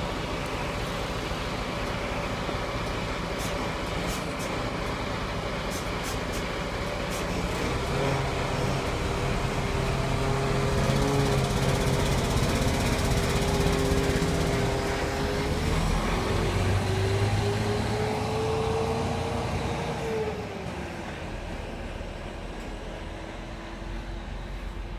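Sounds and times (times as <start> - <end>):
bus diesel engine accelerating: 0.0 - 24.9.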